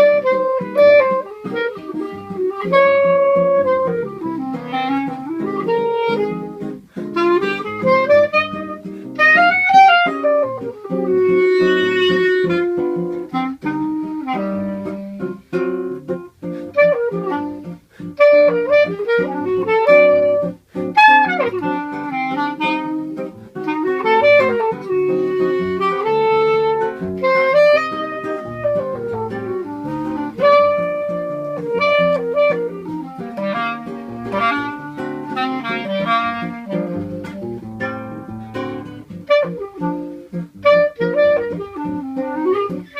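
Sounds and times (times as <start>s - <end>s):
clarinet melody: 0.0s - 42.9s
plucked acoustic guitar: 0.0s - 42.9s.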